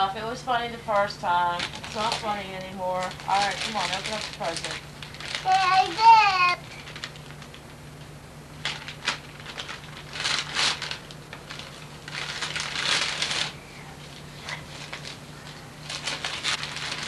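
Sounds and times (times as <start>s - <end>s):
wrapping paper rustling: 0.9s - 17.0s.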